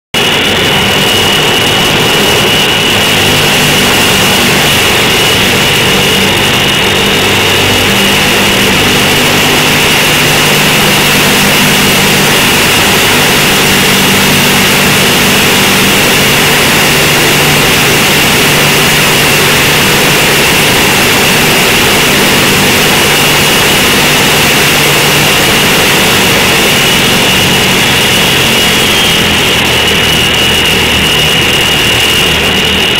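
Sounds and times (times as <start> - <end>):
turboprop engine drone: 0.0 - 32.9
high steady whine: 0.1 - 32.9.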